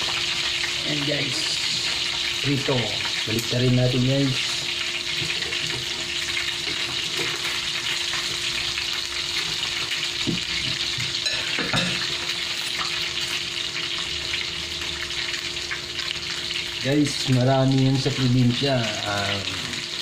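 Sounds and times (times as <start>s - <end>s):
fish frying in hot oil: 0.0s - 20.0s.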